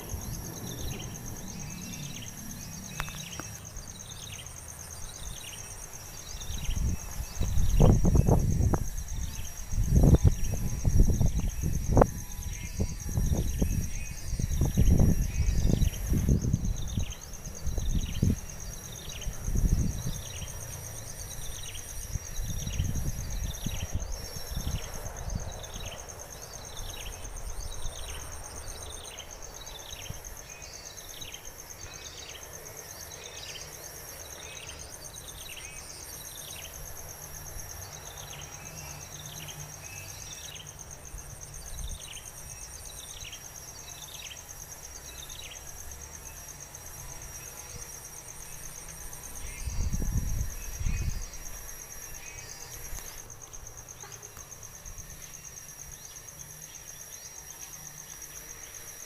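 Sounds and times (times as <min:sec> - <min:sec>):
crickets buzzing: 0:00.0 - 0:59.0.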